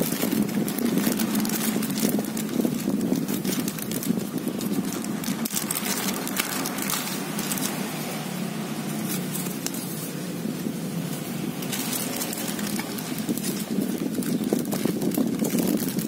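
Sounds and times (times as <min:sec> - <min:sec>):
paper rustling: 0:00.0 - 0:16.0
plastic zip bag crinkling: 0:00.0 - 0:16.0.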